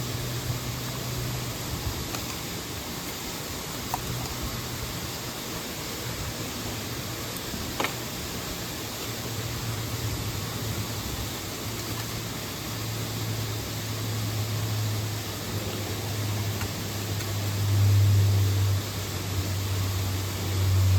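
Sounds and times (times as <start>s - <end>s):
mountain stream and waterfall: 0.0s - 20.9s.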